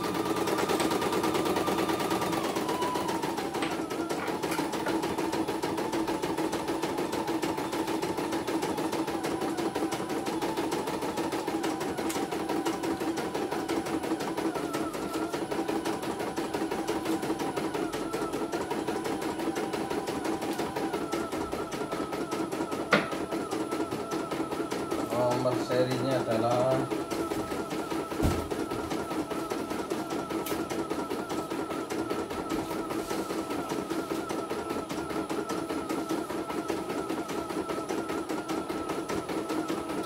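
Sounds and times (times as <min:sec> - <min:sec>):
embroidery machine stitching: 0:00.0 - 0:40.0.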